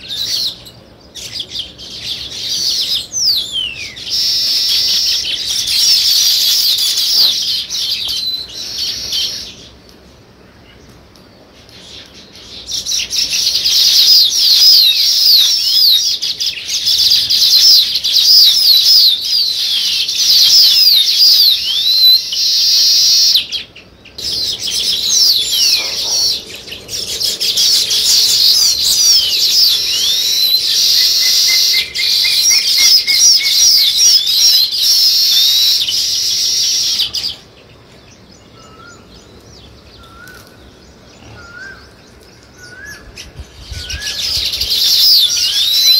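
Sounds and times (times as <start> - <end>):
flock of small birds chirping: 0.0 - 45.9.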